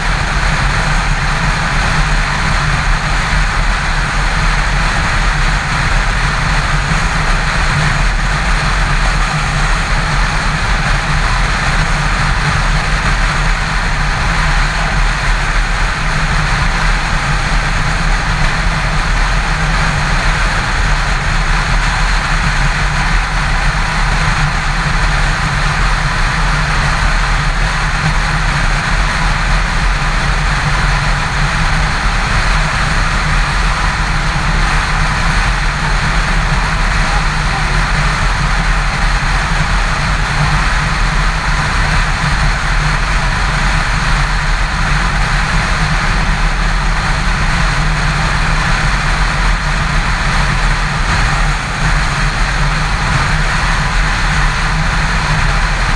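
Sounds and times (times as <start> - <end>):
motorcycle engine droning: 0.0 - 55.9
wind and road noise: 0.0 - 55.9.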